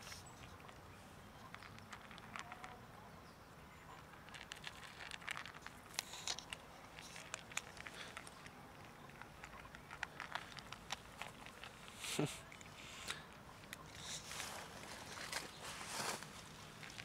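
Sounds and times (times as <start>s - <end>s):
cats crunching dry kibble: 0.0s - 3.1s, 3.8s - 17.0s.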